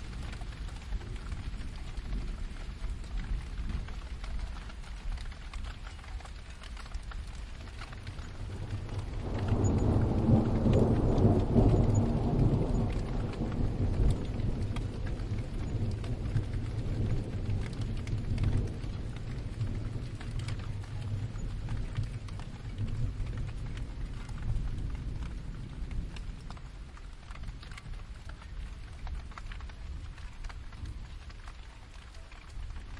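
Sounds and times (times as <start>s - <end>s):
steady rain: 0.0s - 32.9s
thunder rumbling: 0.0s - 32.9s.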